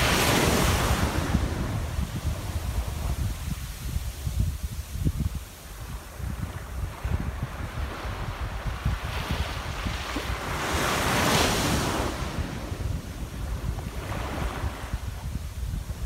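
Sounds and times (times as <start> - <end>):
ocean surf washing in: 0.0 - 16.0
wind rumbling on microphone: 0.0 - 16.0.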